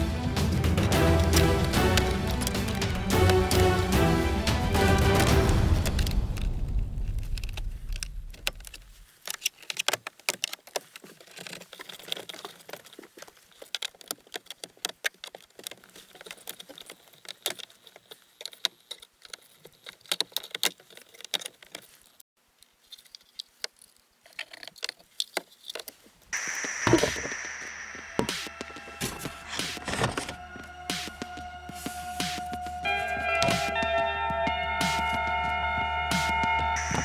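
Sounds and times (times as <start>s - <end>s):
plastic parts clicking and rattling: 0.0s - 30.5s.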